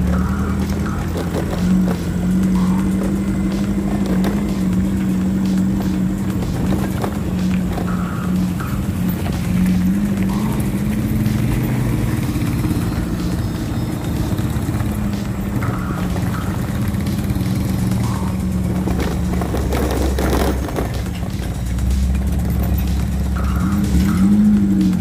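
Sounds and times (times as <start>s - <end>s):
car engine running: 0.0s - 25.0s
music playing: 0.0s - 25.0s.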